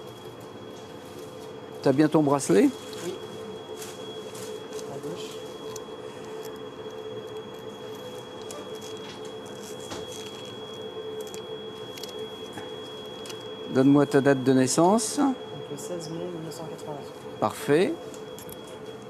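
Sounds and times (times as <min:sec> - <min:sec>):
room hum: 0:00.0 - 0:19.0
thin high whine: 0:00.0 - 0:19.0.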